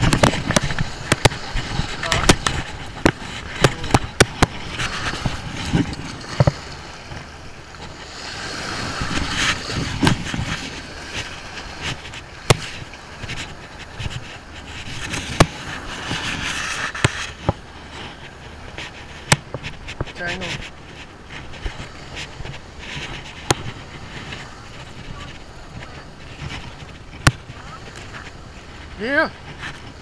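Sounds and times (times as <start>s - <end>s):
small waves washing on beach: 0.0s - 30.0s
wind buffeting the microphone: 0.0s - 30.0s.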